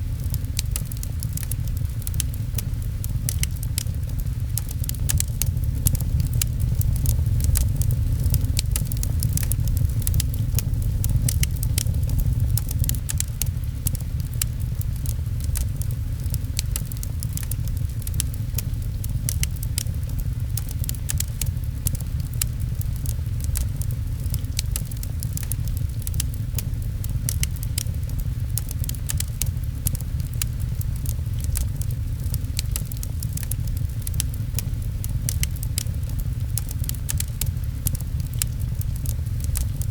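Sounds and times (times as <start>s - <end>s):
low rumble: 0.0s - 32.7s
fireplace crackling: 0.0s - 39.9s
rain pattering: 0.0s - 39.9s.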